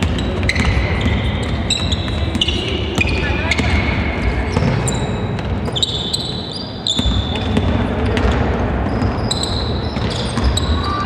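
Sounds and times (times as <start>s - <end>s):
basketball bouncing: 0.0s - 6.0s, 6.9s - 11.0s
sneakers squeaking on court: 0.0s - 11.0s.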